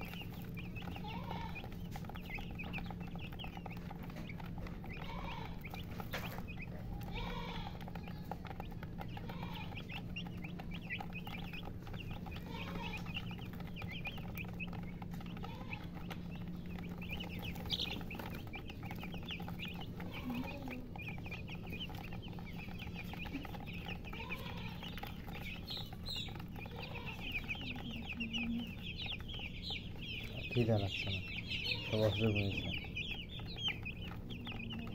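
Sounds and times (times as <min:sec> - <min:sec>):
chicks peeping: 0:00.0 - 0:34.9
steady low hum: 0:00.0 - 0:34.9.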